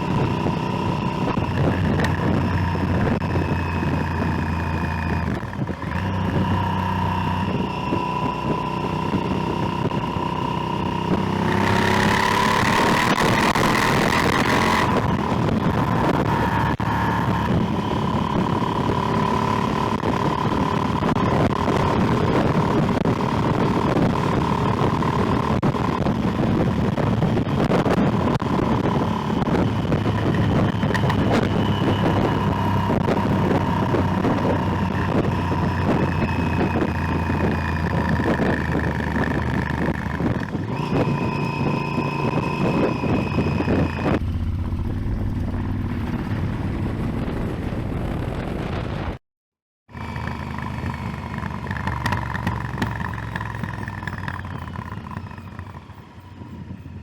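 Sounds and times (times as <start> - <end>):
motorcycle engine running: 0.0 - 49.2, 49.9 - 57.0
wind rushing over microphone: 0.0 - 49.2, 50.0 - 57.0.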